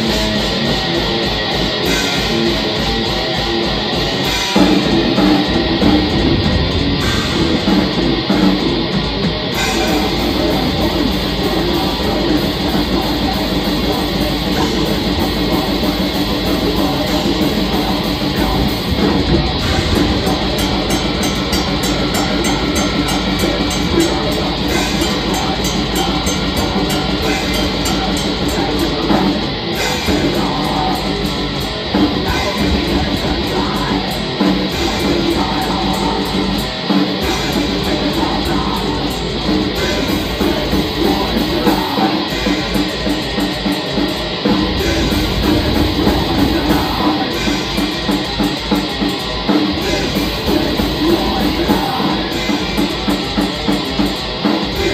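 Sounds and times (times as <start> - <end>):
distorted electric guitars: 0.0 - 54.9
drum kit: 0.0 - 54.9.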